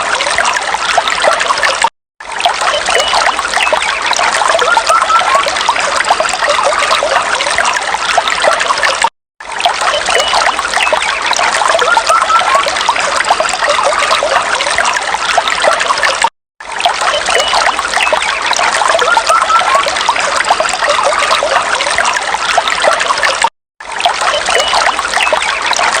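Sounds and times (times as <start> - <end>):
stream trickling: 0.0 - 26.0.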